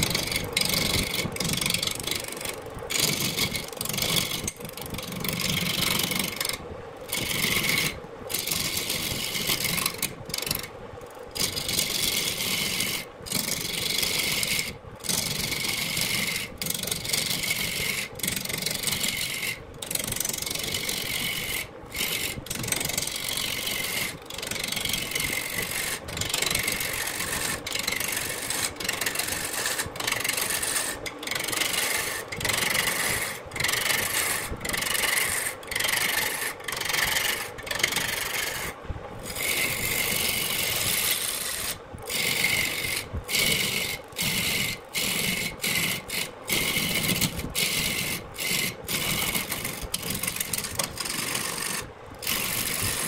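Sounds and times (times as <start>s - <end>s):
lathe tool shaving wood: 0.0s - 53.0s.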